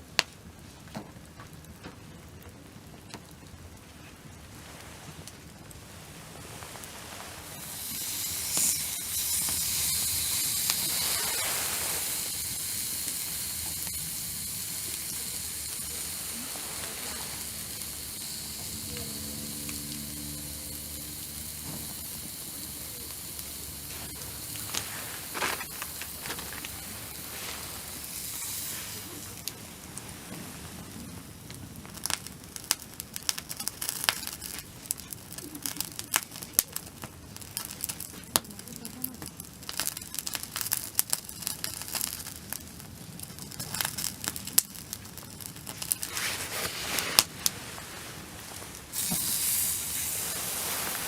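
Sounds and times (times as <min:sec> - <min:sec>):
food sizzling on a grill: 0:04.4 - 0:51.0.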